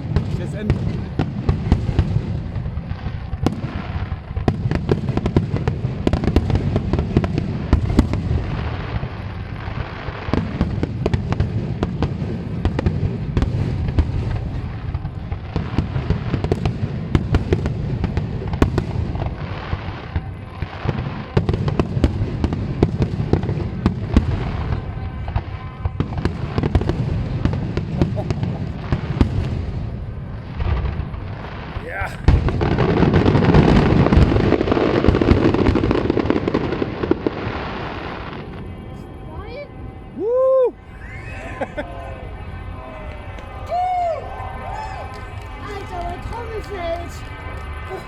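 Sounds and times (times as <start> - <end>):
fireworks cracking and banging: 0.0 - 48.0.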